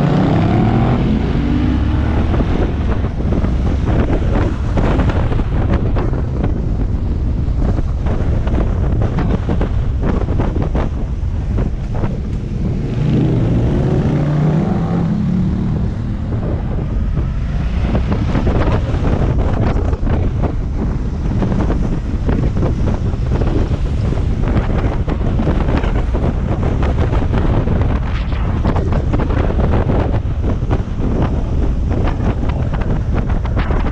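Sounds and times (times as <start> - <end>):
wind rush on microphone: 0.0 - 33.9.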